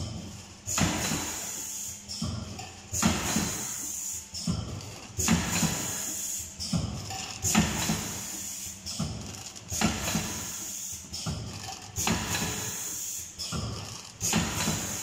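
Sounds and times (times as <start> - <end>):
packing machine clacking with hiss: 0.0 - 15.0
quiet mechanical running: 0.0 - 15.0.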